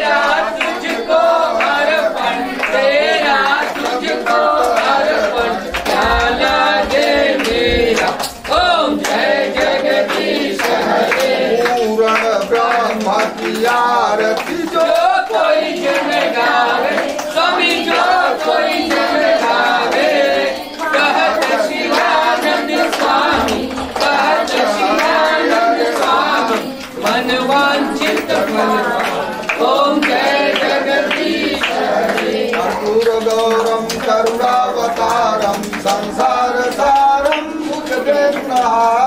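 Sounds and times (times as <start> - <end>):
group of voices singing: 0.0 - 39.0
hand claps: 0.0 - 39.0.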